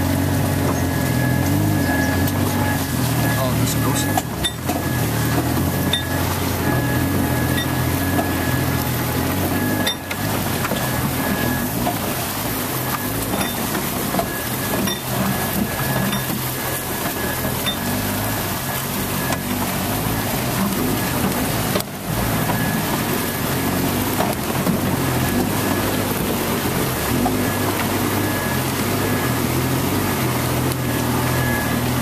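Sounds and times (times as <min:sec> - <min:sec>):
car engine running at low speed: 0:00.0 - 0:32.0
water sloshing around tyres: 0:00.0 - 0:32.0.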